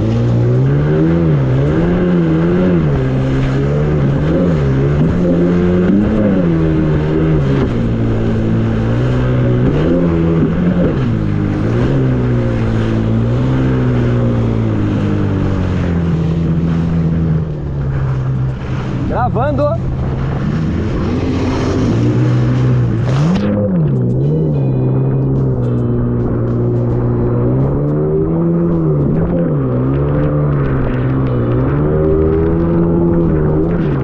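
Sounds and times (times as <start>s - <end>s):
jet ski engine revving: 0.0s - 34.0s
wind and water rushing: 0.0s - 34.0s.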